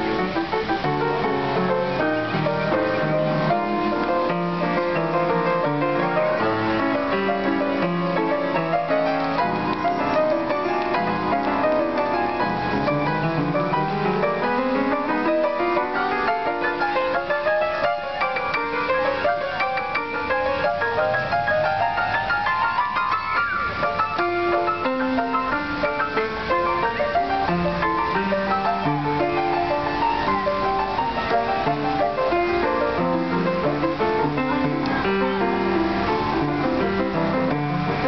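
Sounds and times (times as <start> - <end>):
acoustic piano playing: 0.0 - 38.0.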